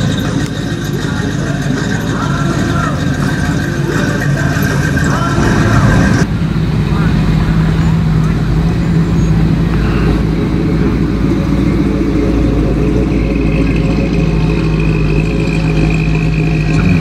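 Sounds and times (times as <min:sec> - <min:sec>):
car engine low exhaust note: 0:00.0 - 0:17.0.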